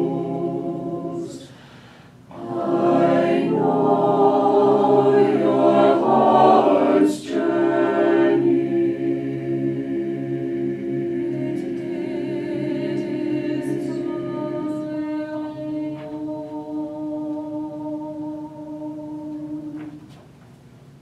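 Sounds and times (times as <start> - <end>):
choir singing a cappella: 0.0 - 20.1.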